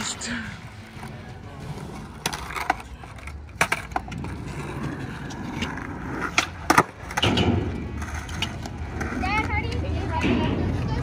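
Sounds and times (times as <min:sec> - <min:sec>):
skateboard wheels rolling on concrete: 0:00.0 - 0:11.0
skateboard clacks: 0:01.8 - 0:11.0.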